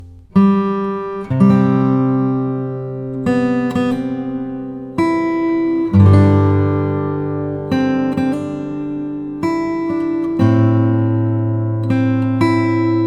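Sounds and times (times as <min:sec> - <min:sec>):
acoustic guitar chords strummed: 0:00.0 - 0:13.0.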